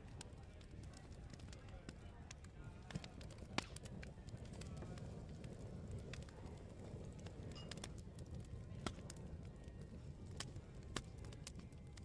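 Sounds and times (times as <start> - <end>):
murmur of chatter: 0.0 - 12.0
wood fire crackling and popping: 0.0 - 12.0.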